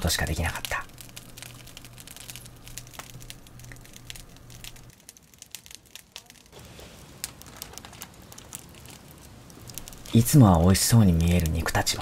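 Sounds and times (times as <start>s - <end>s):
fire crackling and popping: 0.0s - 12.0s
low steady hum: 0.0s - 12.0s.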